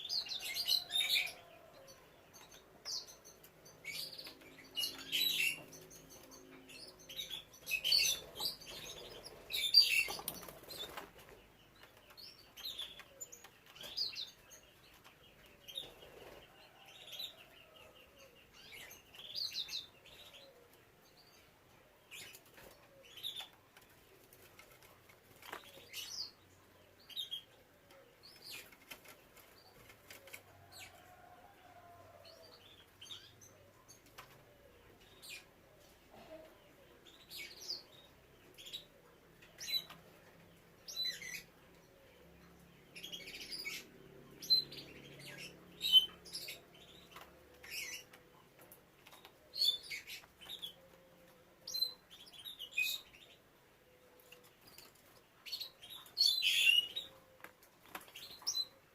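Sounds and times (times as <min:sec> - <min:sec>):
canaries chirping: 0:00.0 - 0:58.9.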